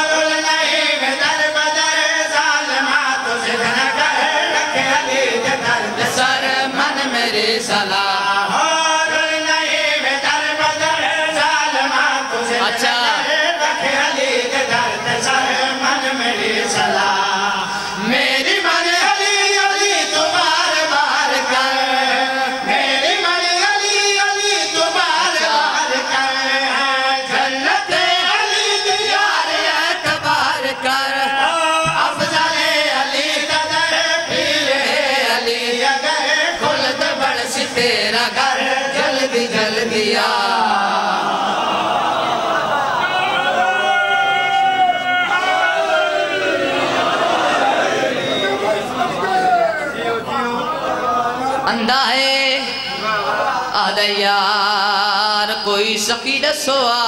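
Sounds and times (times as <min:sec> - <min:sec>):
group chanting into microphones: 0:00.0 - 0:57.0.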